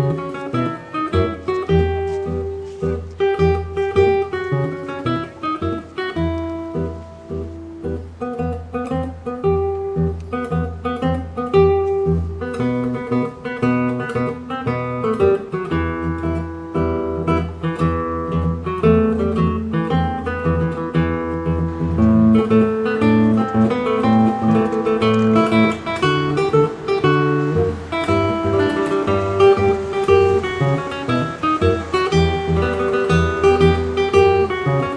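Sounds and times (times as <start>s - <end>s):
plucked acoustic guitar melody: 0.0s - 34.9s.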